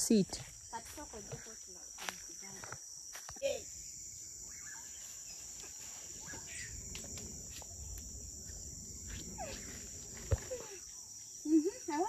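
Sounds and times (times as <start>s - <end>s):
insects shrilling: 0.6s - 12.0s.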